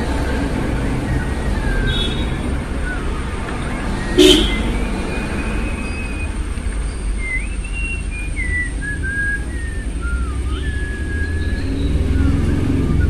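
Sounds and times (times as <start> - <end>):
low background rumble: 0.0 - 13.0
person whistling a tune: 0.2 - 13.0.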